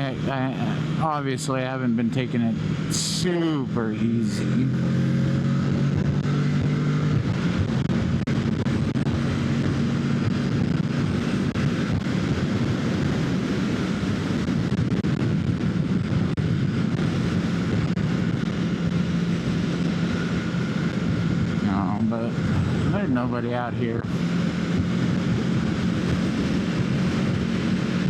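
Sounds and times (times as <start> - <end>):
motorcycle engine cruising: 0.0 - 28.0
wind rush on microphone: 0.0 - 28.0.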